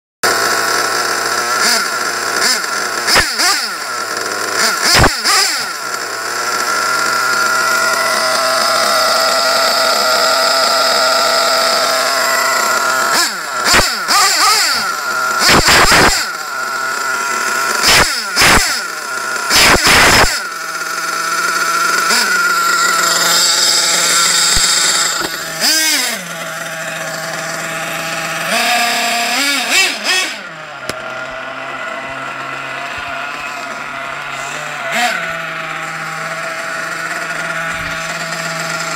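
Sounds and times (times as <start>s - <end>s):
engine revving in short bursts: 0.2s - 38.9s
model truck engine idling: 0.2s - 38.9s.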